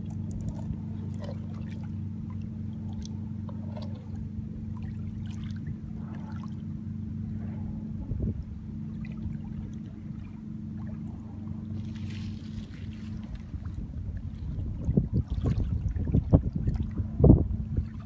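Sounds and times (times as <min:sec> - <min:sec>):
shallow water splashing: 0:00.0 - 0:18.0
steady low hum: 0:00.0 - 0:18.0.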